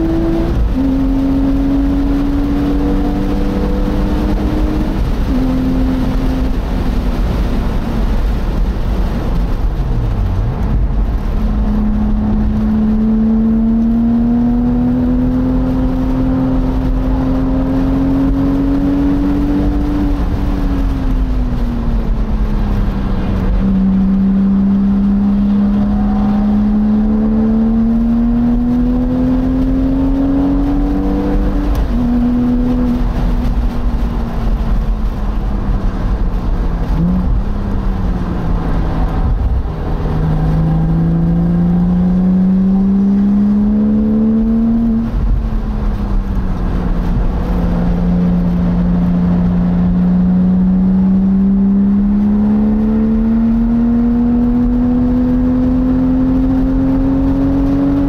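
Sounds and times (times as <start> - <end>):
sports car engine revving: 0.0 - 58.0
wind and road noise: 0.0 - 58.0.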